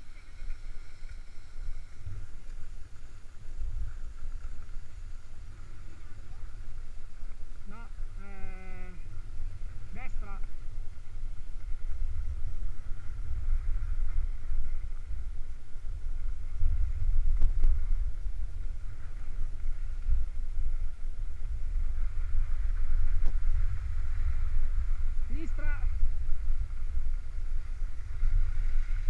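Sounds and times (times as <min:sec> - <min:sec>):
wind noise on microphone: 0:00.0 - 0:29.0.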